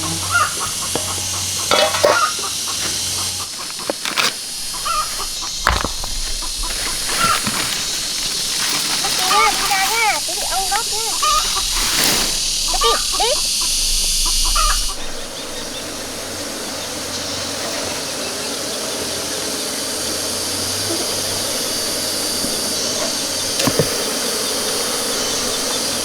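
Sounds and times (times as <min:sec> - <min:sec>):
chickens clucking: 0:00.0 - 0:26.0
steady humming: 0:00.0 - 0:26.0.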